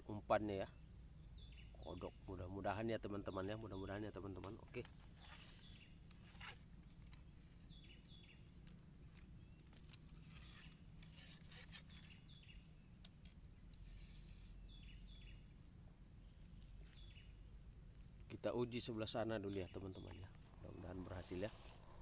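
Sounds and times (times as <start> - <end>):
crickets chirping chorus: 0.0 - 22.0.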